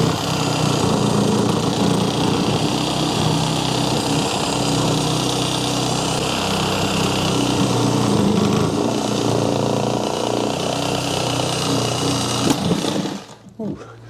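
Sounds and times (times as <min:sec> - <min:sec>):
power saw cutting pipe: 0:00.0 - 0:13.5.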